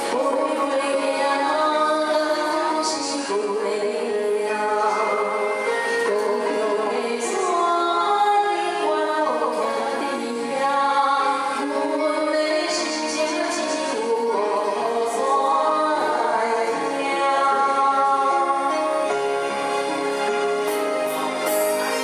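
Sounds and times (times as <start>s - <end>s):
woman singing a slow ballad: 0.0s - 19.2s
instrumental backing music: 0.0s - 22.0s.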